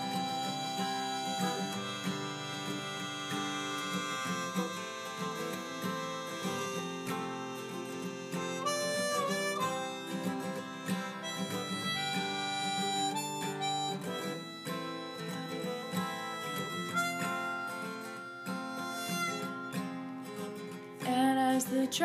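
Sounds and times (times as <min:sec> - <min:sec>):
harmonica solo: 0:00.0 - 0:20.8
acoustic guitar accompaniment: 0:00.0 - 0:22.0.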